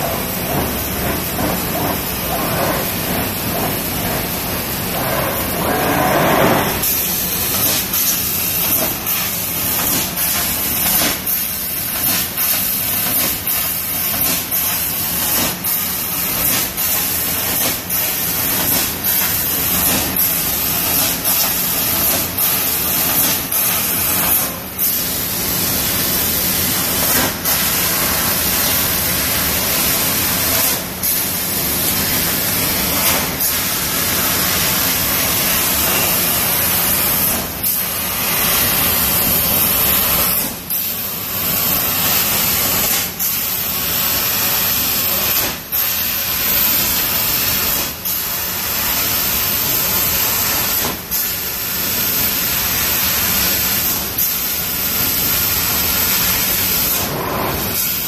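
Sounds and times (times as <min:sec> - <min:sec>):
laser cutter gas hiss: 0:00.0 - 0:58.0.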